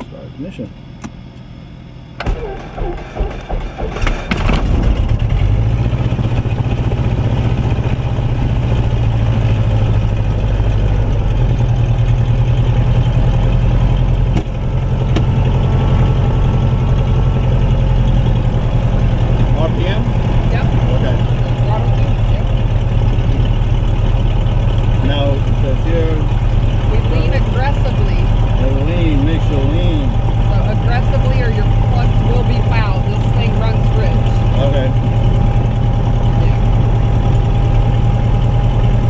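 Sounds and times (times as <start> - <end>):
aircraft engine idling: 0.0 - 39.0.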